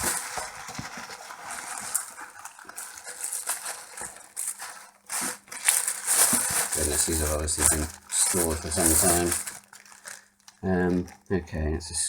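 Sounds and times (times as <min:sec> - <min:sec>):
shredded paper rustling: 0:00.0 - 0:11.3.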